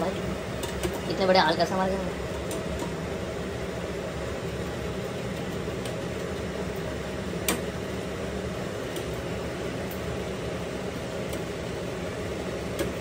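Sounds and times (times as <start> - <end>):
food frying in a wok: 0.0 - 13.0
gas stove hum: 0.0 - 13.0
tea boiling: 0.0 - 13.0.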